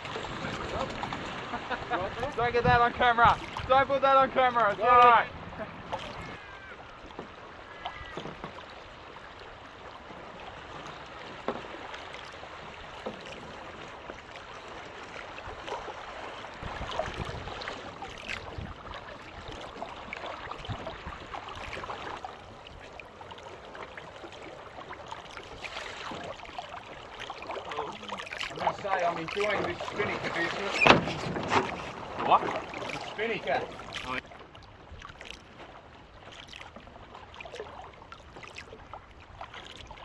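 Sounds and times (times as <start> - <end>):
water rushing along boat hull: 0.0 - 40.0.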